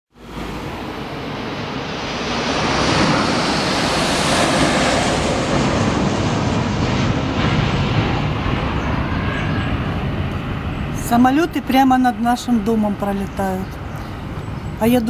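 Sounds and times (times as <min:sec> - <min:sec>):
military aircraft flying overhead: 0:00.1 - 0:15.0.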